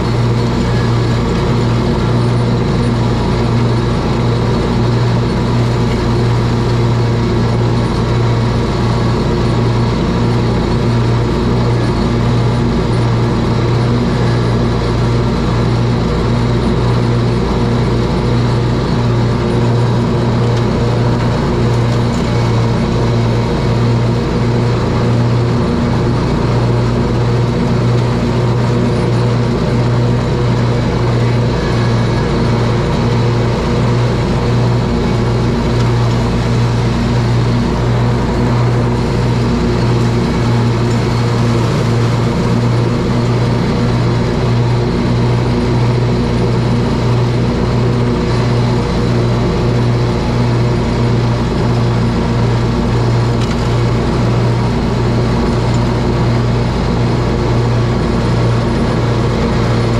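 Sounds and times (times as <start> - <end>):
mower engine drone: 0.0 - 59.9.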